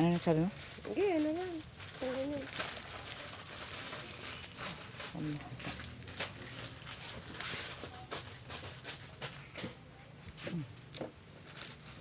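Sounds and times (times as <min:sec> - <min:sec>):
packets clicking and rustling: 0:00.0 - 0:09.7, 0:10.9 - 0:12.0.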